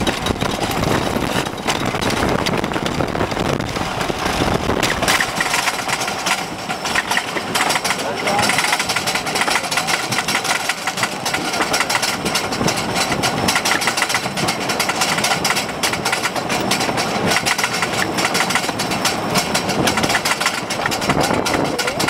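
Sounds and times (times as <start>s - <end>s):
roller coaster train rattling: 0.0s - 22.0s.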